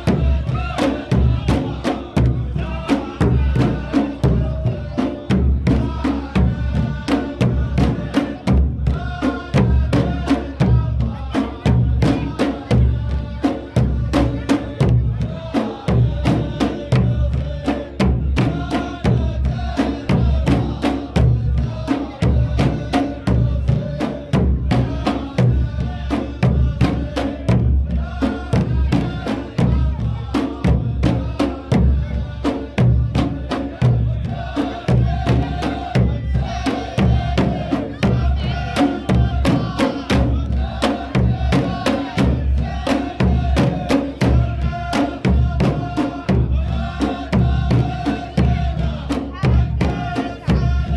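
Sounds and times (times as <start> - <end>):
men chanting in unison: 0.0 - 50.9
steady drumbeats: 0.0 - 50.9.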